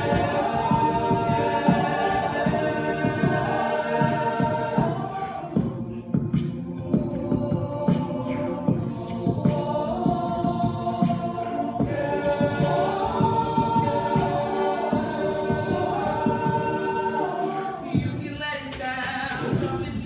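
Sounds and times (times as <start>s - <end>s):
low rhythmic pulse: 0.0s - 18.2s
men's choir singing in harmony: 0.0s - 20.0s.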